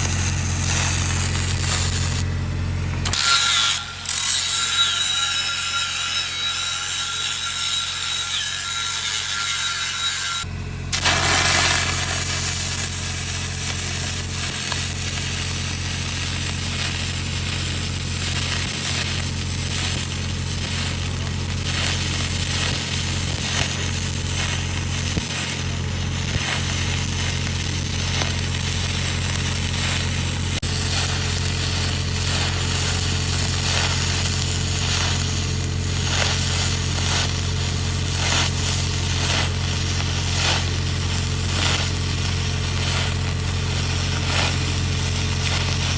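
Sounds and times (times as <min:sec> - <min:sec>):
steady low hum: 0:00.0 - 0:03.1, 0:10.4 - 0:45.9
welding arc hissing and crackling: 0:00.0 - 0:45.9.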